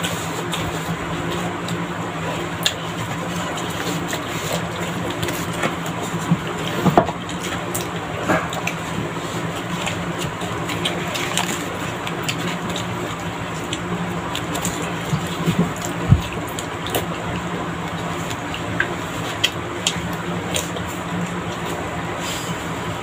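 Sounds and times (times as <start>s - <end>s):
children chewing: 0.0s - 23.0s
steady low hum: 0.0s - 23.0s.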